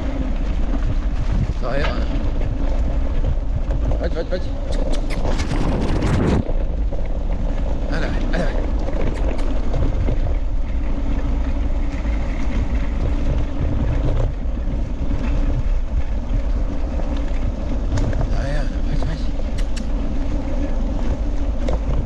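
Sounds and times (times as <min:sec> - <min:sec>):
wheels rolling on gravel: 0:00.0 - 0:22.0
wind rumble on microphone: 0:00.0 - 0:22.0.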